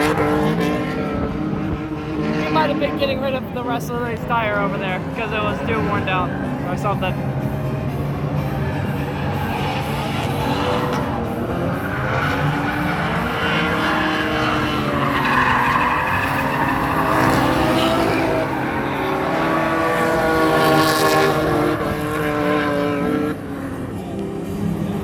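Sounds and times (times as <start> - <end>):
car engines revving: 0.0 - 25.0
tires squealing: 0.0 - 25.0.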